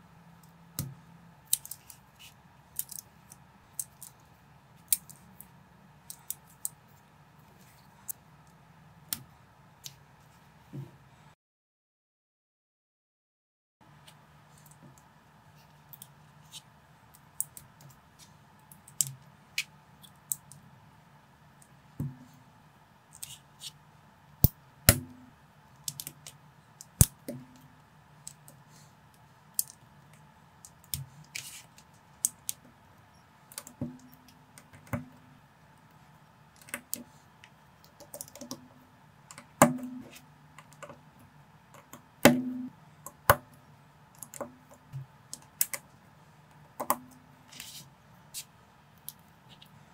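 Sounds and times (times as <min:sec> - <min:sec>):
faint steady hum: 0:00.0 - 0:11.4, 0:13.8 - 0:49.9.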